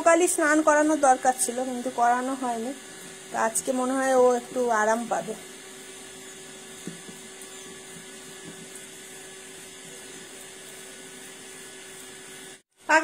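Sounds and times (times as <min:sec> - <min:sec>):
small motor humming: 0:00.0 - 0:12.7.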